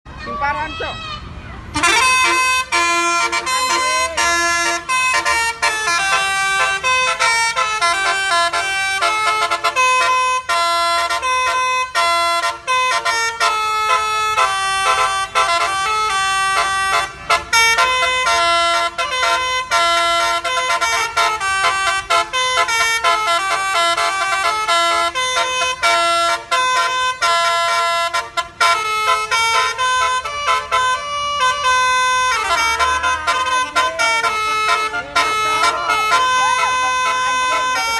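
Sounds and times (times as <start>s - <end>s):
bus musical horn melody: 1.7s - 37.9s.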